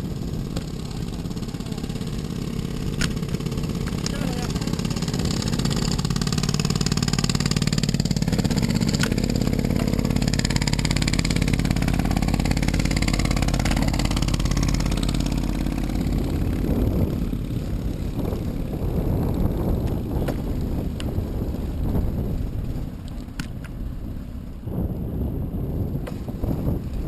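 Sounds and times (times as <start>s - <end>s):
vehicle engine running: 0.0s - 27.0s
wind on microphone: 0.0s - 27.0s.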